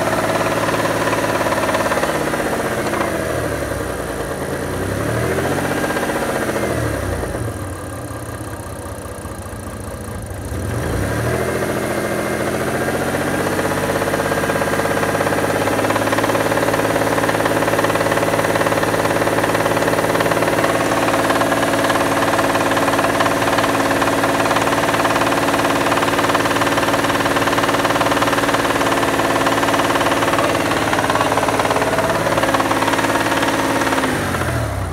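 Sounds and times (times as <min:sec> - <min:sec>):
car engine revving with knock: 0:00.0 - 0:34.9.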